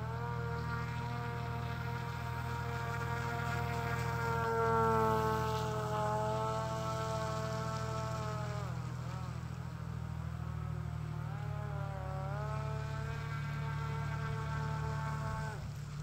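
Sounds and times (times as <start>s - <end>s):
low hum: 0.0s - 16.0s
model boat motor whine: 0.0s - 16.0s.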